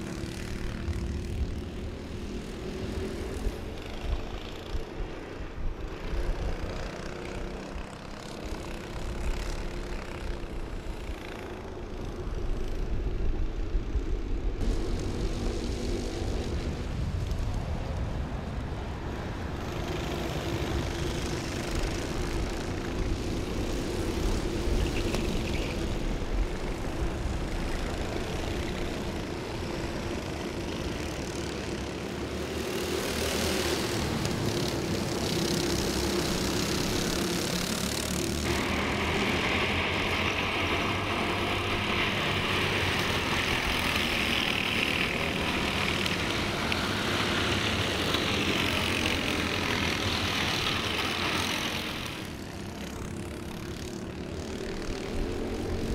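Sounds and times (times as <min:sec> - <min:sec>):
racing kart engines buzzing: 0:00.0 - 0:55.9.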